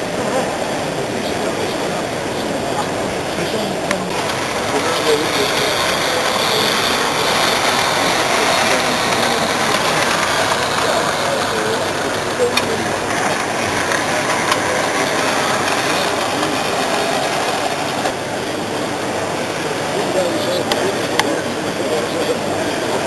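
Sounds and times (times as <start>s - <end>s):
murmur of many people talking: 0.0s - 23.0s.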